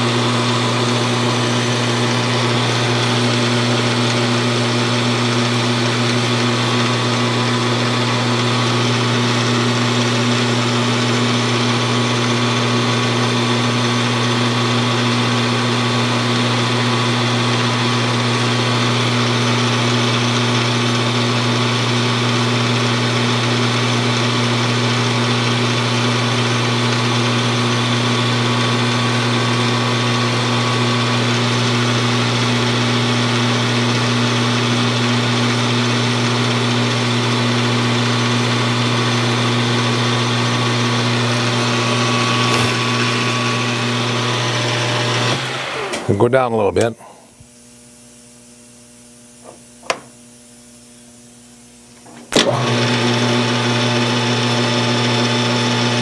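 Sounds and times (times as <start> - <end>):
metal lathe running: 0.0 - 46.5, 52.0 - 56.0.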